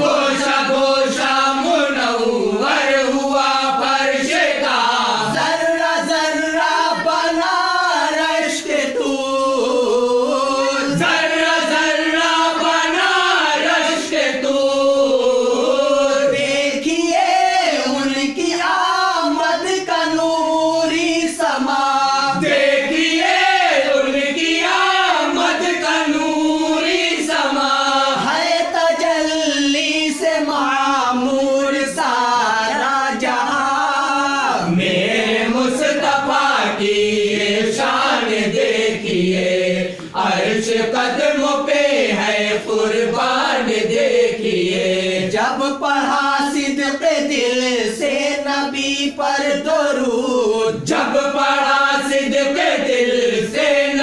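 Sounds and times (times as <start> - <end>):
group singing devotional song: 0.0 - 54.0.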